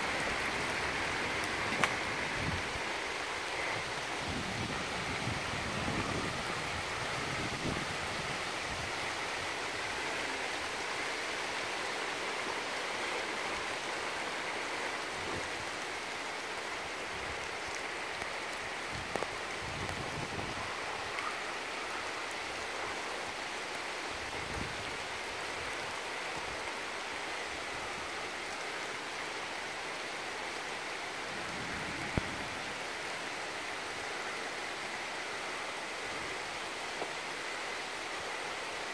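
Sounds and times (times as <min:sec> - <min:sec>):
woodland ambience hiss: 0:00.0 - 0:38.9.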